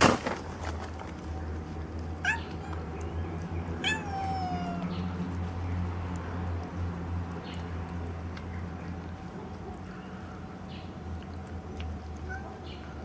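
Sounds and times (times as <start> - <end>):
steady low hum: 0.2 - 13.0
cat chewing clicks: 1.0 - 13.0.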